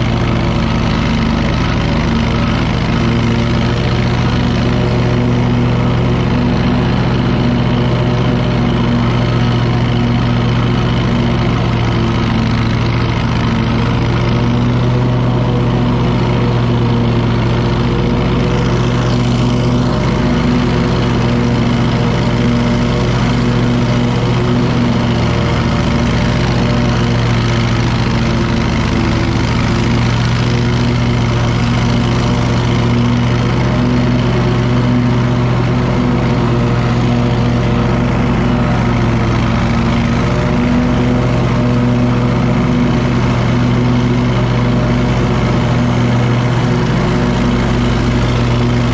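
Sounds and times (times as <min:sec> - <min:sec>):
lawn mower engine running: 0:00.0 - 0:48.9.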